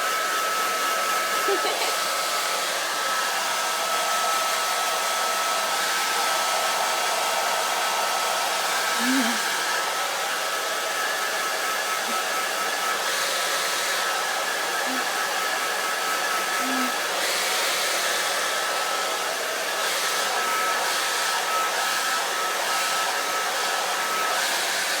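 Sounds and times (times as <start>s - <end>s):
hairdryer running: 0.0s - 25.0s.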